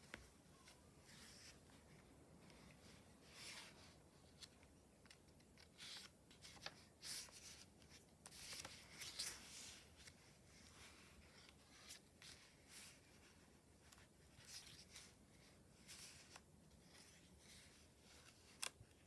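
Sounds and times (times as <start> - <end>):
paper pages turning: 0.0 - 13.0, 15.8 - 19.0.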